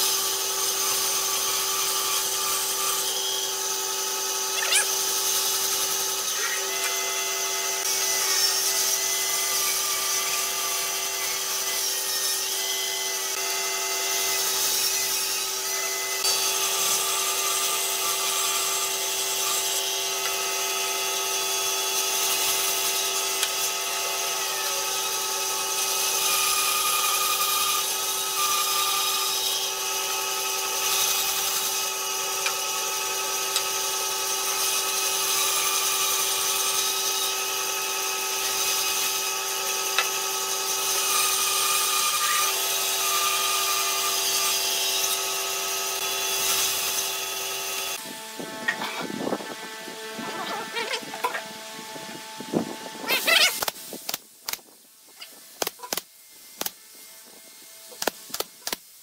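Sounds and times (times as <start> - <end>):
bandsaw cutting wood: 0.0 - 54.7.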